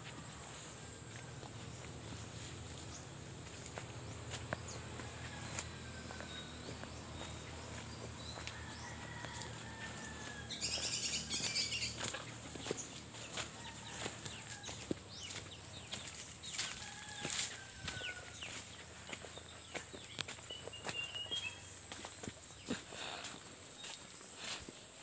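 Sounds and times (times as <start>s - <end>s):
footsteps crunching on dry leaves: 0.0s - 25.0s.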